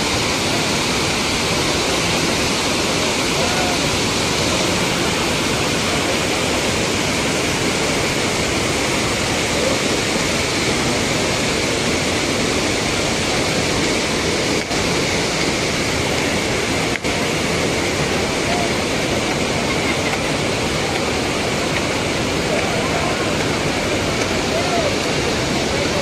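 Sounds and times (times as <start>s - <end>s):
river water rushing over a weir: 0.0s - 26.0s.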